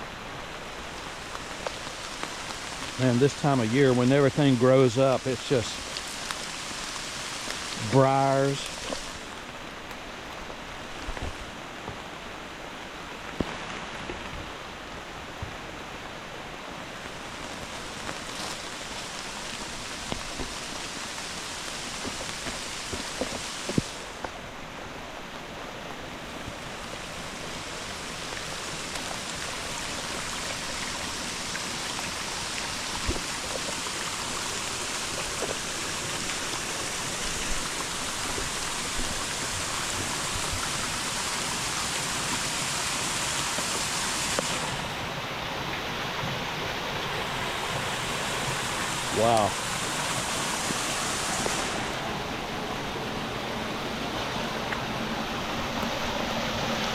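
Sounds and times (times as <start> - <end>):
hard rain hissing: 0.0 - 56.9
rushing creek: 0.0 - 56.9.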